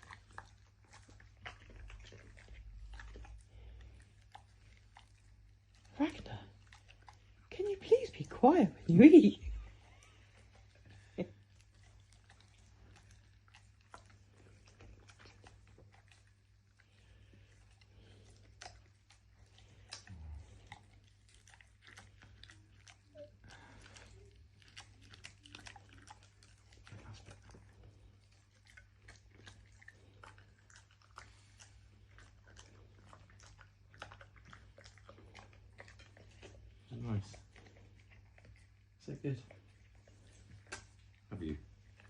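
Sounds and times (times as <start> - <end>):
puppy chewing wet smacking: 0.0 - 42.0.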